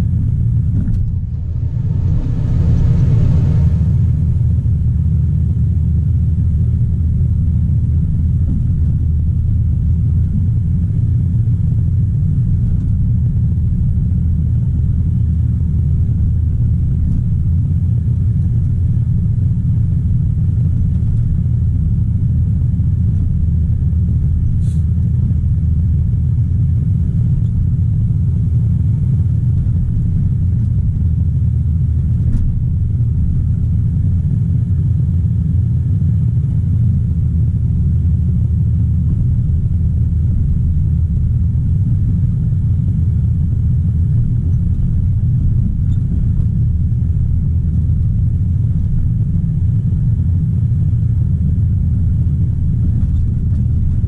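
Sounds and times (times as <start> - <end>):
diesel engine rumbling: 0.0 - 54.0.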